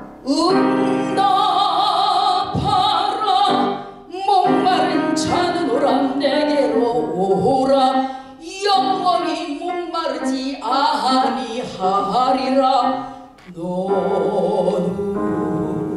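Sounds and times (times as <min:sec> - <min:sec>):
grand piano accompaniment: 0:00.0 - 0:15.9
woman singing into a microphone: 0:00.2 - 0:15.9.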